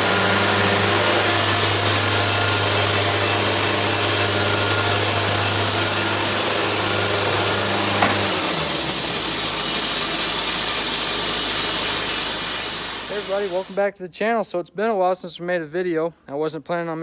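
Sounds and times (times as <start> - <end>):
engine hum: 0.0 - 13.8
saw blade hissing: 0.0 - 13.8.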